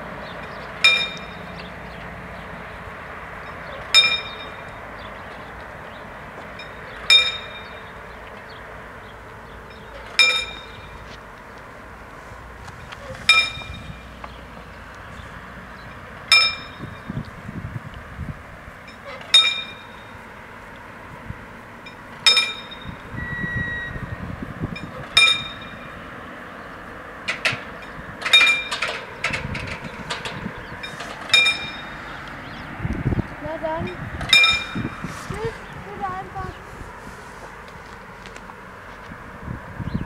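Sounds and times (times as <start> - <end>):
level crossing warning bell: 0.0 - 14.8, 15.6 - 17.3, 18.8 - 20.7, 21.8 - 32.6, 33.5 - 36.6.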